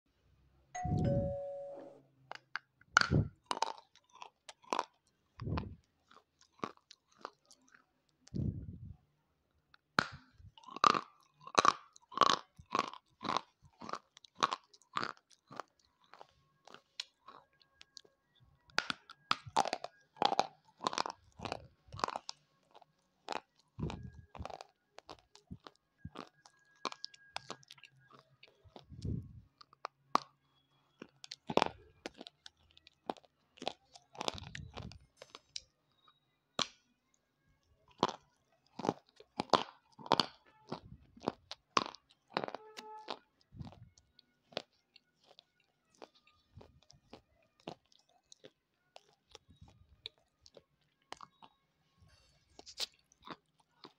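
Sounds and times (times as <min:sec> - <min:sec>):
crunchy chewing: 0:03.0 - 0:08.8, 0:10.0 - 0:36.7, 0:37.9 - 0:53.9.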